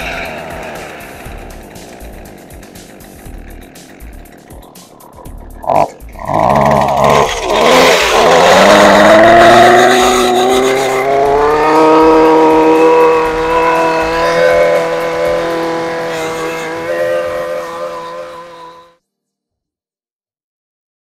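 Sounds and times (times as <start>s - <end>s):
string trimmer engine running: 0.0s - 18.9s.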